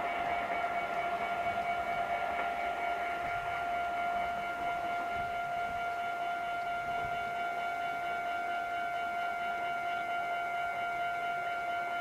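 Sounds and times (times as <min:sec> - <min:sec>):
level crossing alarm ringing: 0:00.0 - 0:12.0.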